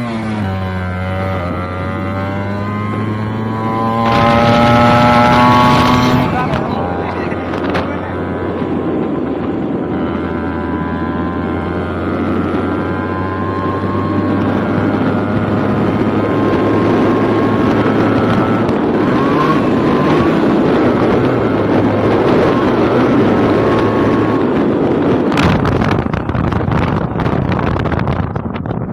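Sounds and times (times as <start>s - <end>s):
two-stroke motorcycle engine: 0.0s - 28.9s
wind on microphone: 0.0s - 28.9s.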